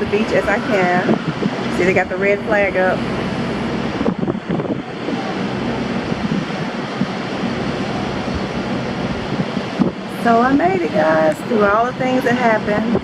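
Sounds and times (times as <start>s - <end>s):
rough ocean surf breaking: 0.0s - 13.0s
wind buffeting microphone: 0.0s - 13.0s.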